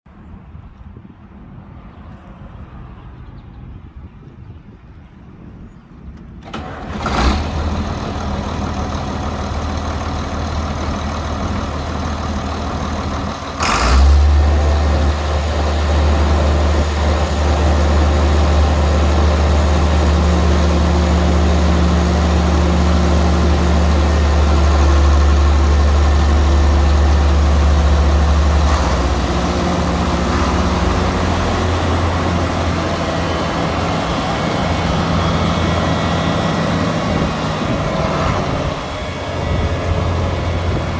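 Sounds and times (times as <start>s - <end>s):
tractor diesel engine running: 6.4s - 40.9s.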